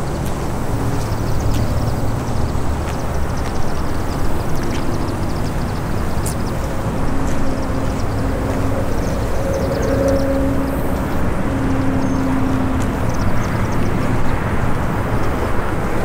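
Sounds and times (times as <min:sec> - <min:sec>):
distant traffic rumble: 0:00.0 - 0:16.0
engine hum: 0:00.0 - 0:16.0.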